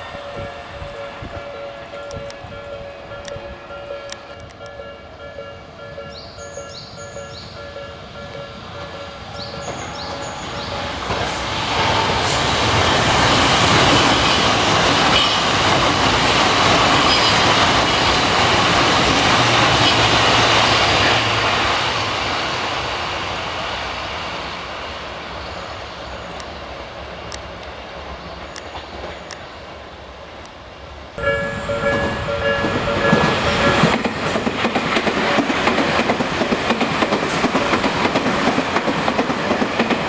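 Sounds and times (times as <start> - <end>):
electric train running: 0.0 - 24.2, 31.2 - 40.0.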